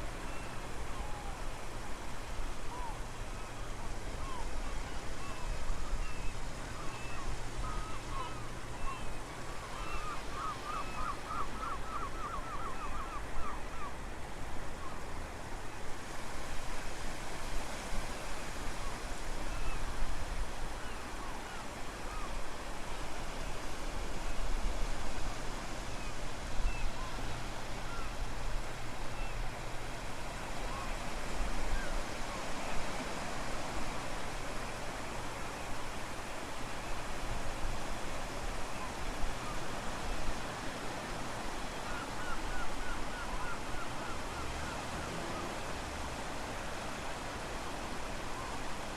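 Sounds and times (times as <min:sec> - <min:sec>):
surf rushing at shore: 0:00.0 - 0:48.9.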